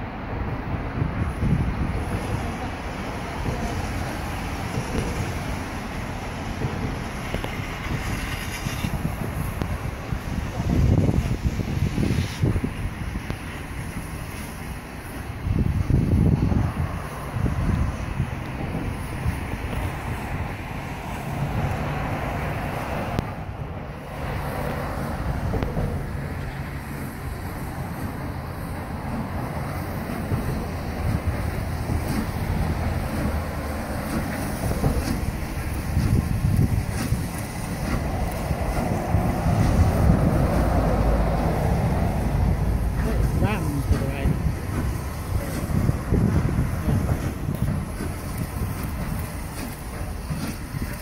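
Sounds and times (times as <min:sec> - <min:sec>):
steam locomotive running: 0:00.0 - 0:51.0
traffic driving past: 0:00.0 - 0:51.0
wind buffeting microphone: 0:00.0 - 0:51.0.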